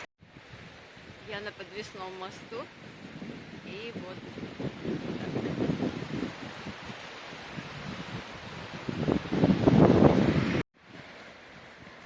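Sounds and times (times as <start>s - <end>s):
moving water: 0.0s - 12.0s
wind on microphone: 0.0s - 12.0s.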